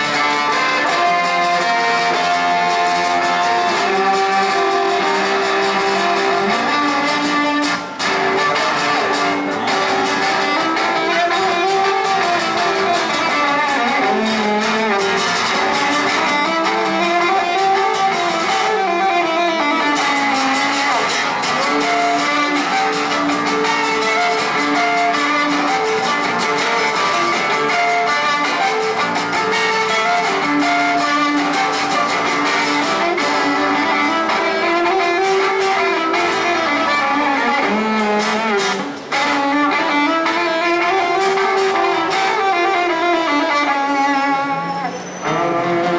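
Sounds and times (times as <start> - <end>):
acoustic guitar strumming: 0.0 - 45.9
violin melody: 0.0 - 45.9.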